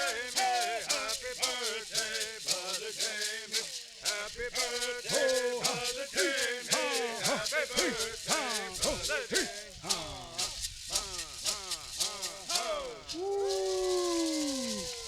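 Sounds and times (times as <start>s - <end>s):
hand rattles shaken: 0.0s - 15.0s
people singing together: 0.0s - 15.0s.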